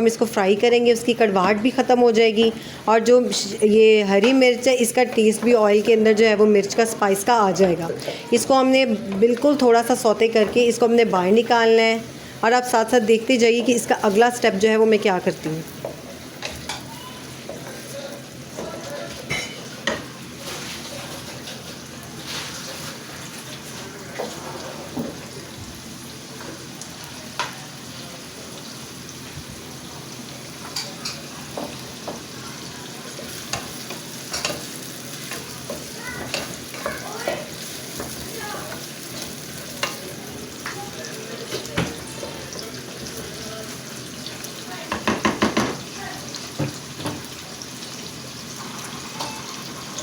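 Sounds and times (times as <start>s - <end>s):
onions sizzling in hot oil: 0.0s - 50.0s.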